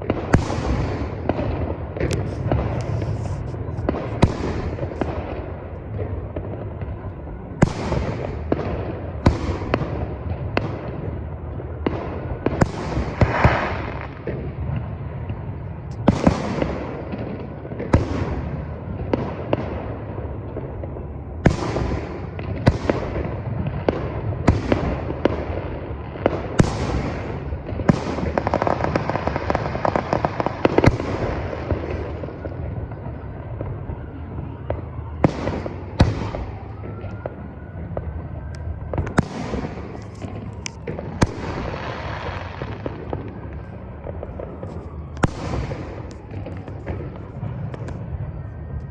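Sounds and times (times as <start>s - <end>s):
continuous low rumble: 0.0s - 48.9s
fireworks bangs: 0.0s - 48.9s
fireworks crackling: 0.0s - 48.9s.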